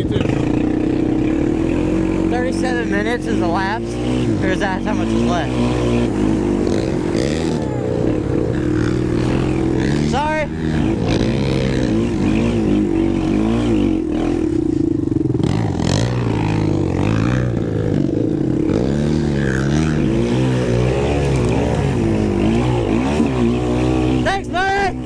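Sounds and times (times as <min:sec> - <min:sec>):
quad engine revving: 0:00.0 - 0:25.0.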